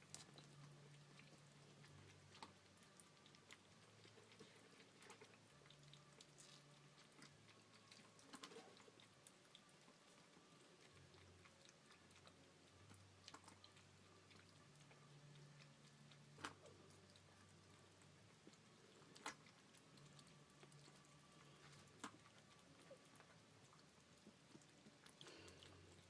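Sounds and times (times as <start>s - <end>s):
kittens lapping water: 0.0s - 26.0s
low steady hum: 0.0s - 26.0s.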